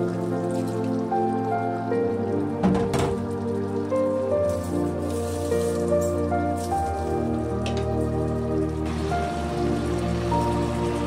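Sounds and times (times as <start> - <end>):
sauce bubbling in a frying pan: 0.0 - 5.3, 6.1 - 11.0
background music with held notes: 0.0 - 11.0.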